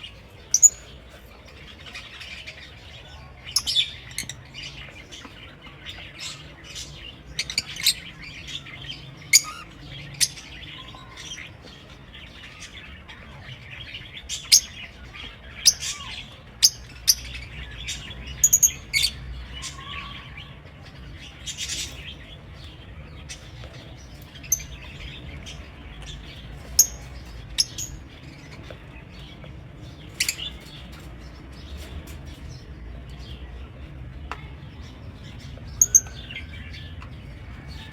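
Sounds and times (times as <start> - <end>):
lovebirds chirping: 0.0 - 37.9.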